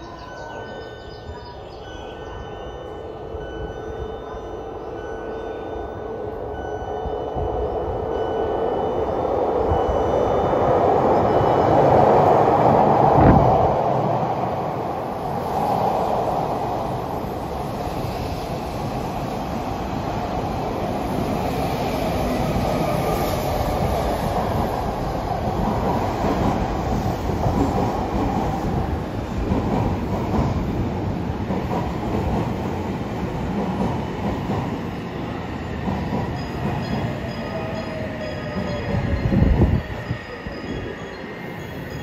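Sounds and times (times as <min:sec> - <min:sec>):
falling train whine: 0:00.0 - 0:42.0
train wheels rolling on rail: 0:07.4 - 0:42.0.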